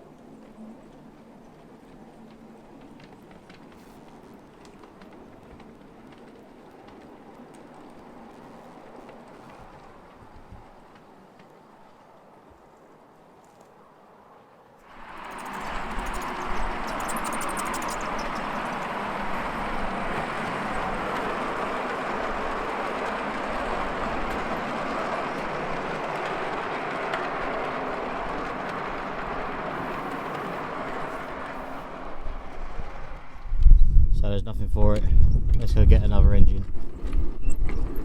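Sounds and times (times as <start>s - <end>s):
miniature train rolling on track: 0.0s - 13.8s, 14.8s - 33.8s, 34.9s - 38.0s.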